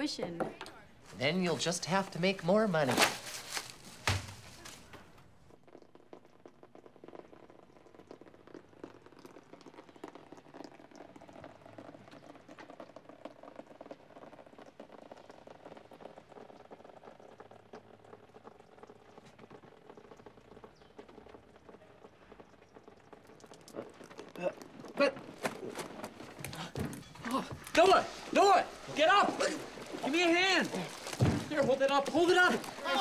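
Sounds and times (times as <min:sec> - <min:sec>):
water dripping and trickling: 0:01.2 - 0:33.0.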